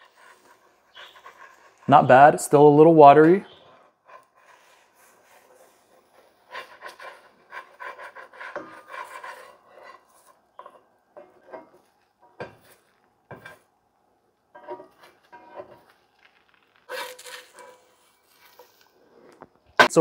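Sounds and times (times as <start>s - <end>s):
spatula scraping a skillet: 0.0s - 1.9s, 3.5s - 13.7s, 14.5s - 20.0s.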